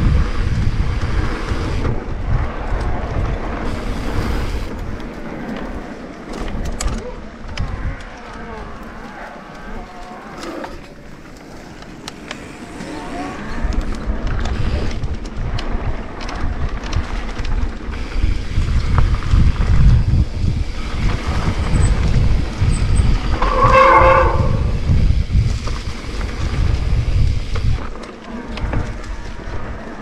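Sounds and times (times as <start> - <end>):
bike clicks and rattles: 0.0 - 30.0
bike rumble on trail: 0.0 - 30.0
wind buffeting microphone: 0.0 - 30.0.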